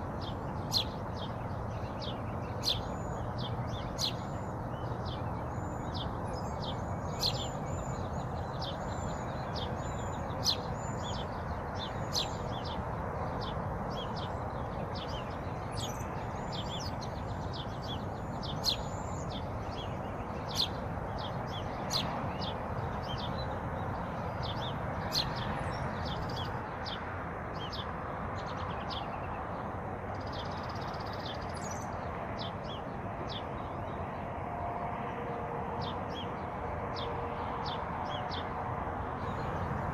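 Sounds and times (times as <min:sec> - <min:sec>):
small birds chirping: 0:00.0 - 0:34.1.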